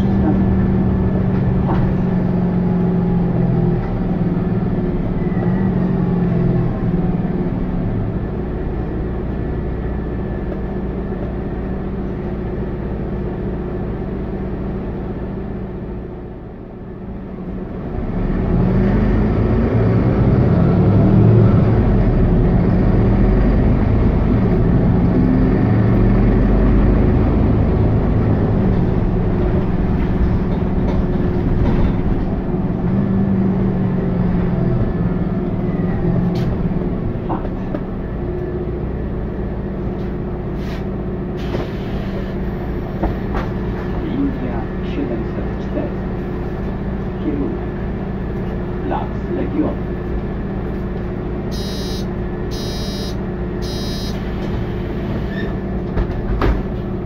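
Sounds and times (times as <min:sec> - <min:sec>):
bus engine and gearbox: 0:00.0 - 0:57.0.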